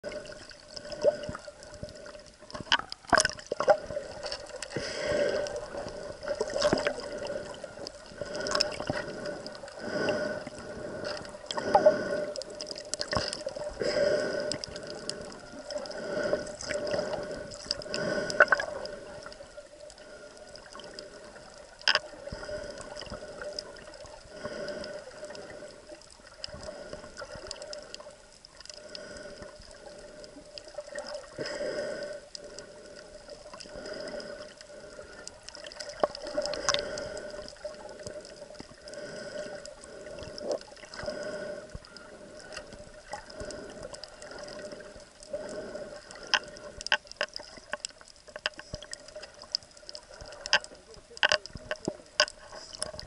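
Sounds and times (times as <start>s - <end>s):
water gurgling: 0.0s - 53.0s
breathing through snorkel: 3.6s - 47.5s.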